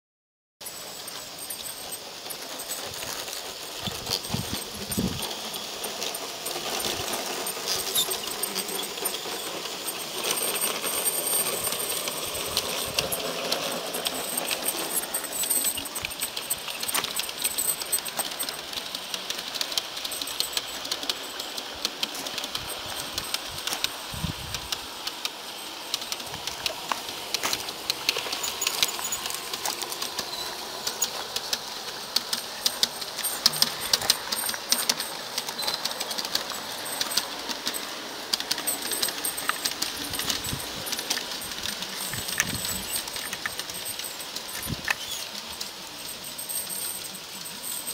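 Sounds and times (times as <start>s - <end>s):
model train wheels clicking and rattling: 0.6s - 47.9s.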